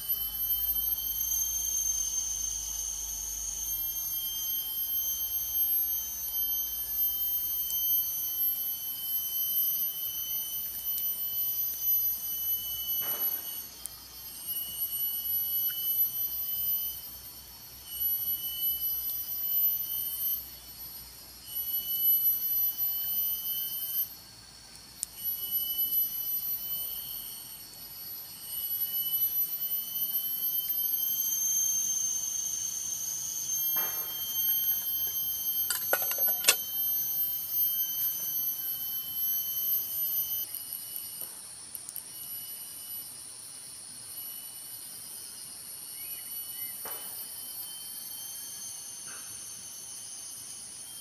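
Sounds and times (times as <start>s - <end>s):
insects shrilling: 0.0s - 51.0s.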